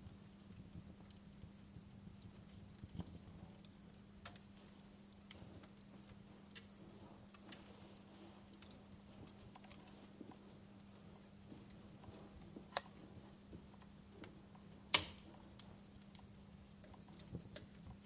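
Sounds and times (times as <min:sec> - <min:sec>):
fire crackling: 0:00.0 - 0:18.0
low hum: 0:00.0 - 0:18.0.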